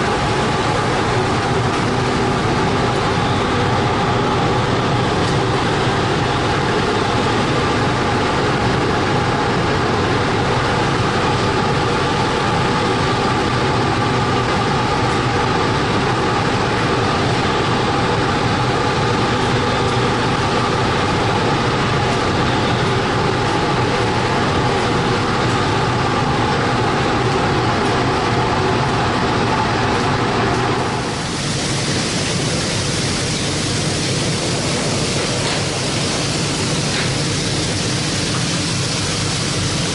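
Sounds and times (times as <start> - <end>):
machinery humming drone: 0.0 - 39.9.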